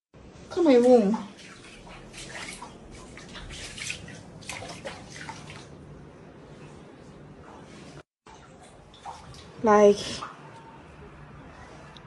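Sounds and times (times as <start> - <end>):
water sloshing and splashing: 0.5 - 11.0.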